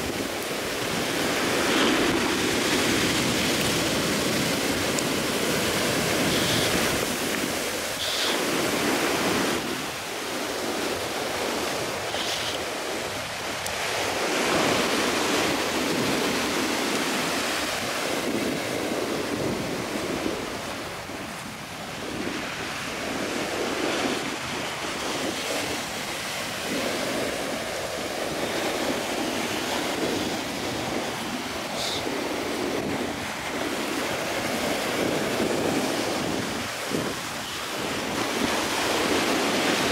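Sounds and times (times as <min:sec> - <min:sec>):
ocean surf breaking: 0:00.0 - 0:39.9
wind buffeting microphone: 0:00.0 - 0:39.9.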